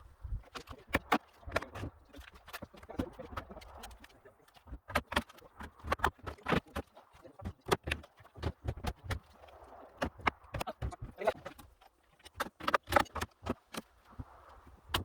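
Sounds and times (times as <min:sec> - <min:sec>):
timber knocking and clacking: 0:00.5 - 0:09.4, 0:10.0 - 0:13.9.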